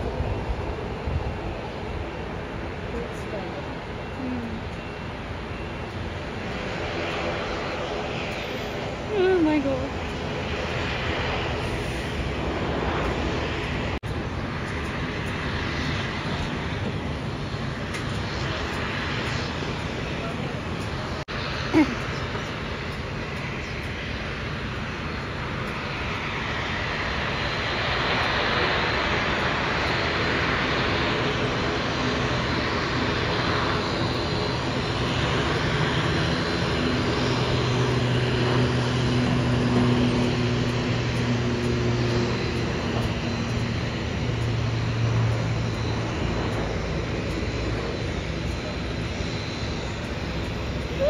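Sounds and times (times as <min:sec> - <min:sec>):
low propeller drone: 0:00.0 - 0:51.0
turboprop engines running: 0:00.0 - 0:51.0.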